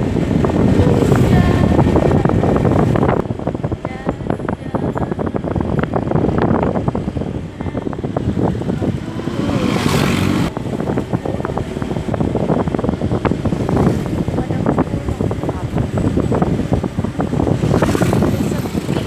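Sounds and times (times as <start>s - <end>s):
motorbike and road noise: 0.0s - 19.0s
wind buffeting microphone: 0.0s - 19.0s.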